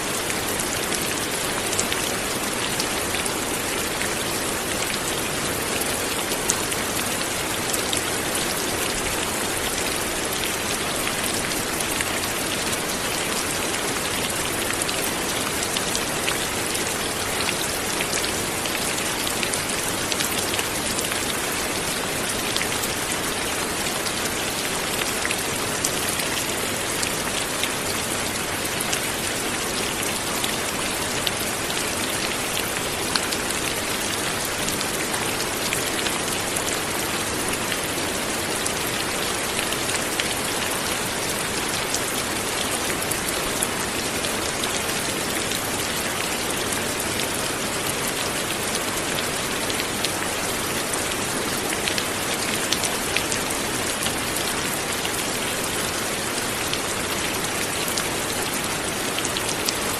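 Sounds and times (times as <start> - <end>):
light rain patter: 0.0 - 59.9.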